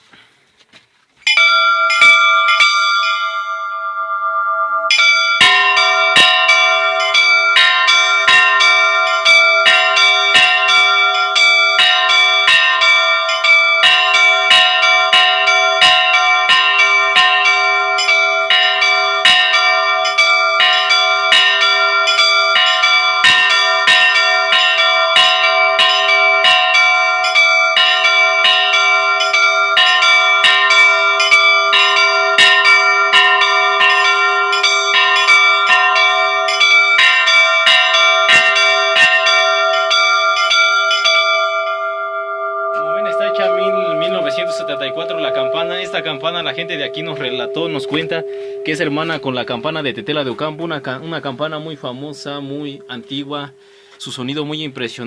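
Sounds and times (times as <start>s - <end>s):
church bells pealing: 1.3s - 54.6s.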